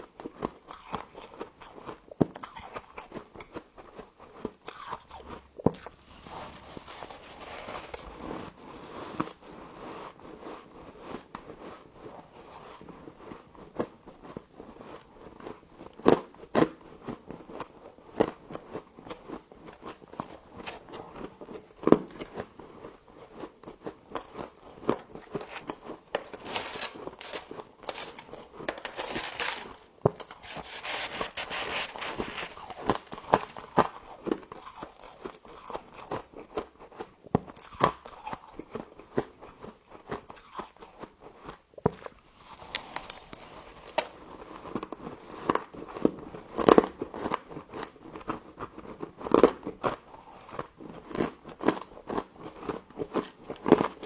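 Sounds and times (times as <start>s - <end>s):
person chewing crunchy frost: 0.0s - 54.0s.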